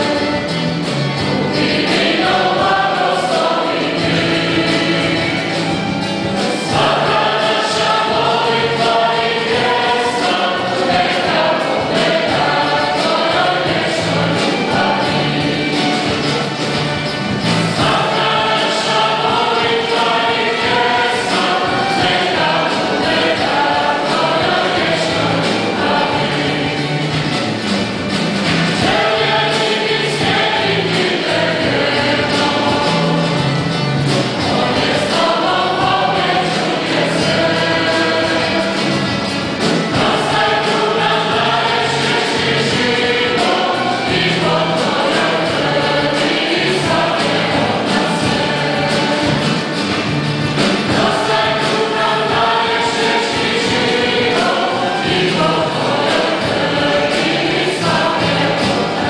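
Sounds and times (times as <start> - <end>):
acoustic guitars: 0.0 - 59.0
bass guitar: 0.0 - 59.0
violin: 0.0 - 59.0
youth choir singing a hymn: 0.0 - 59.0.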